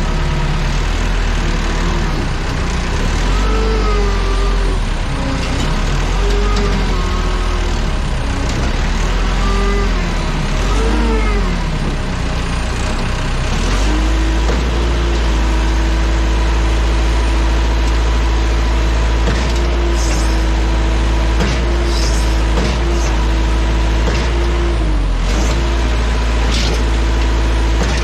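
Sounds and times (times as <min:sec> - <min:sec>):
vehicle engine revving: 0:00.0 - 0:28.0.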